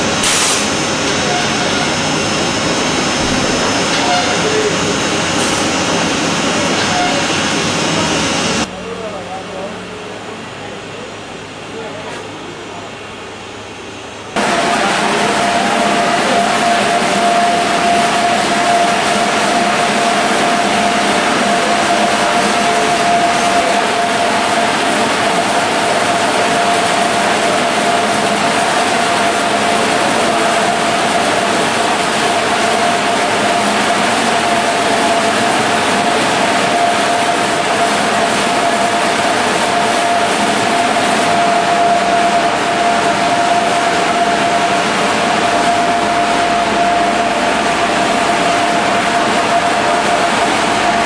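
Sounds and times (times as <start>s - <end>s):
machinery motors and conveyors: 0.0s - 11.0s, 14.3s - 51.0s
constant mechanical whine: 0.0s - 51.0s.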